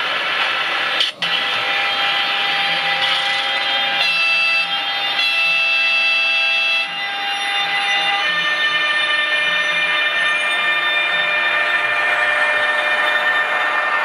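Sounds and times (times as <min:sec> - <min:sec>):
electric locomotive whine: 0:00.0 - 0:14.0.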